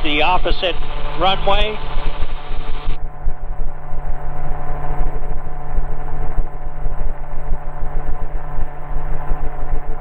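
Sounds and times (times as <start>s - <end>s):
aircraft engine and rotor drone: 0.0s - 10.0s.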